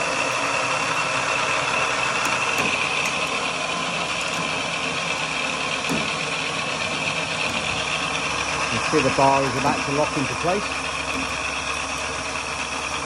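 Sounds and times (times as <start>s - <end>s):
electric winch motor whine: 0.0s - 13.0s.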